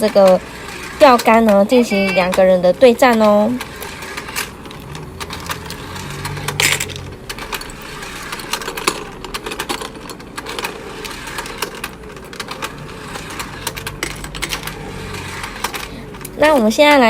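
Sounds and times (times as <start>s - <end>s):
toy motor humming: 0.0s - 11.9s, 12.6s - 17.0s.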